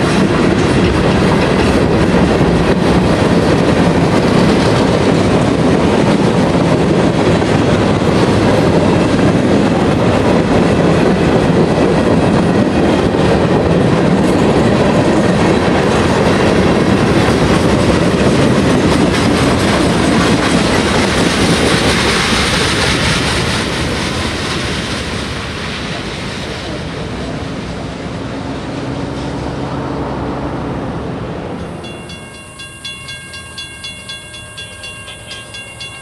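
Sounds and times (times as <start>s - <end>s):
train wheels clattering over rail joints: 0.0s - 29.4s.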